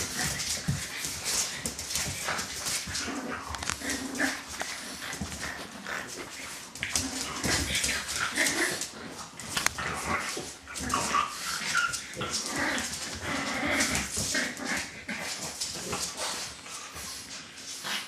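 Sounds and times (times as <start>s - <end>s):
dogs snuffling and grunting: 0.0s - 18.0s.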